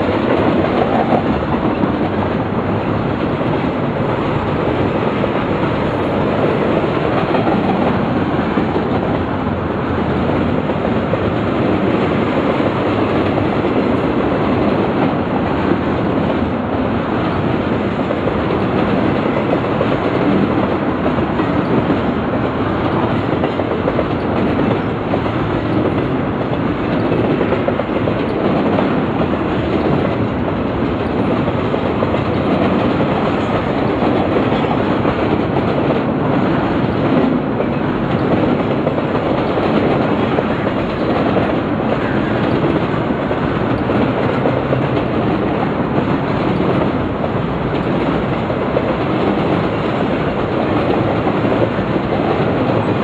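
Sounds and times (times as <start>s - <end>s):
freight cars rumbling on rail: 0.0s - 53.0s.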